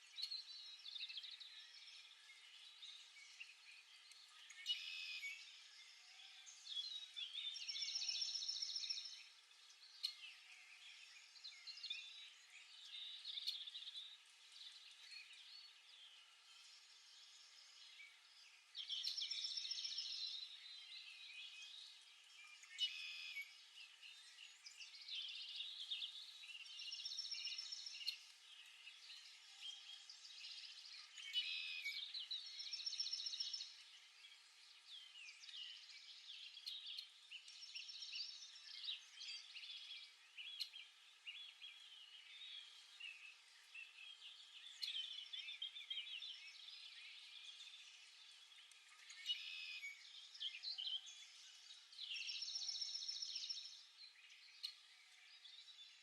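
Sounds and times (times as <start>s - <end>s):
songbirds chirping: 0.0s - 56.0s
bird trilled song: 6.4s - 56.0s.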